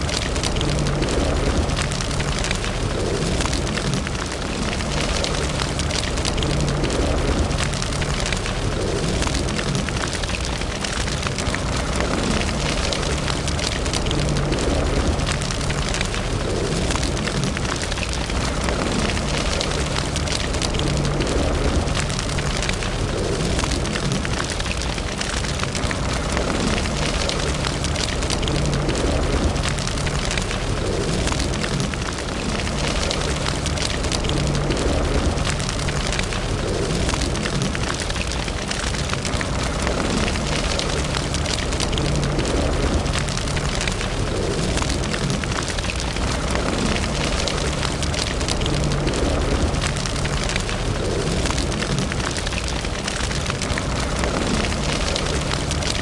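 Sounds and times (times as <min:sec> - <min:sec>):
fire crackling and snapping: 0:00.0 - 0:56.0
flames rumbling: 0:00.0 - 0:56.0.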